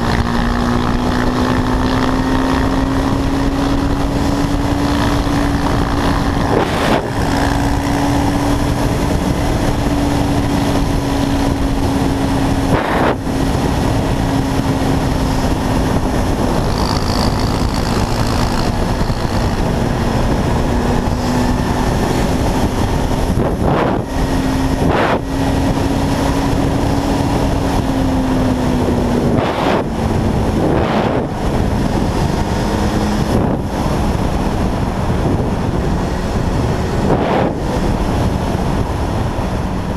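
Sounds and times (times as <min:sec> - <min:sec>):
quad bike engine running: 0:00.0 - 0:39.9
wind and road noise: 0:00.0 - 0:39.9.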